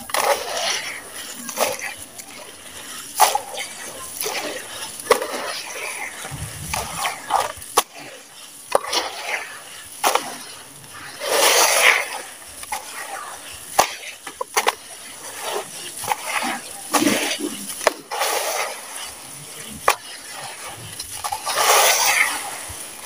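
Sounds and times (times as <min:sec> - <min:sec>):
small water splashes: 0:00.0 - 0:23.0.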